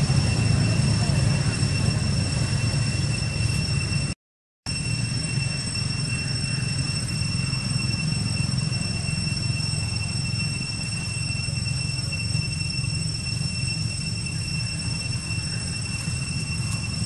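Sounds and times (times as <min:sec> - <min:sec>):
high-pitched whine: 0:00.0 - 0:17.0
steady low rumble: 0:00.0 - 0:17.0.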